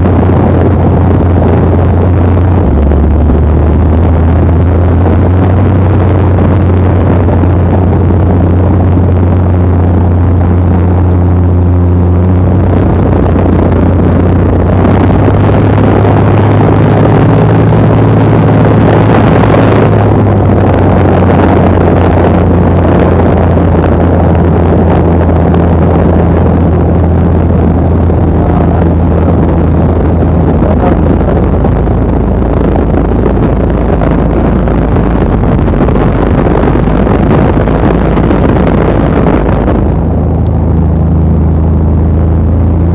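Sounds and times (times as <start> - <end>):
light aircraft engine droning: 0.0 - 42.9
rushing air: 0.0 - 42.9.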